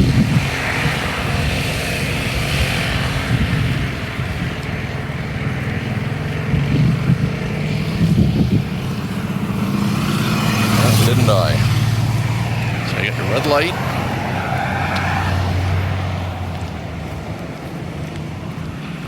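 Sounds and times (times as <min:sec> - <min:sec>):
car engines running: 0:00.0 - 0:19.0
road noise: 0:00.0 - 0:19.0.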